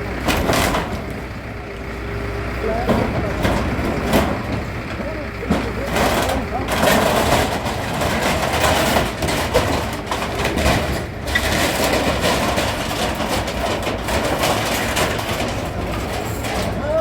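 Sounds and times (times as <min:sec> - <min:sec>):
heavy engine running: 0:00.0 - 0:17.0
knocks and clatter: 0:00.2 - 0:01.3, 0:02.8 - 0:17.0.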